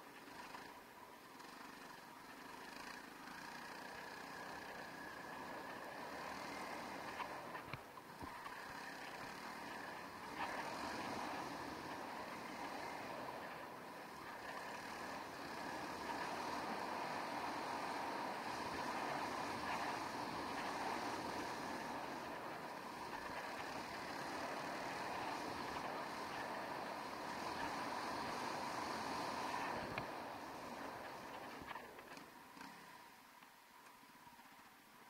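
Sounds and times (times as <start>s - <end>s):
motorcycle engine running: 0.1s - 32.8s.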